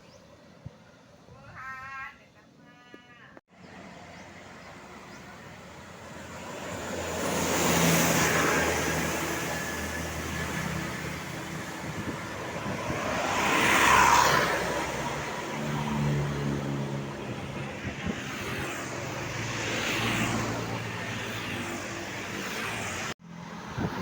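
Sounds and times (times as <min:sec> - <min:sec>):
buses passing by: 0:00.0 - 0:01.5, 0:02.2 - 0:24.0.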